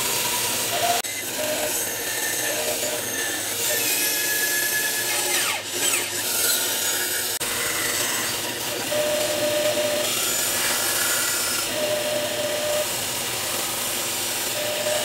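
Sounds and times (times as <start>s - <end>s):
electric saw cutting wood: 0.0s - 15.0s.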